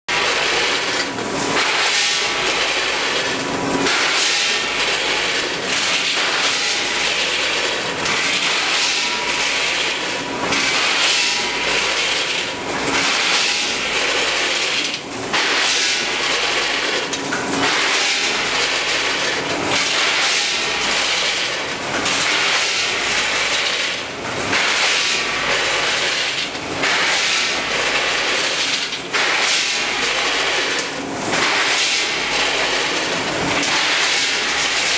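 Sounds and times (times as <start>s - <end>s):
machine clacking: 0.1s - 34.9s.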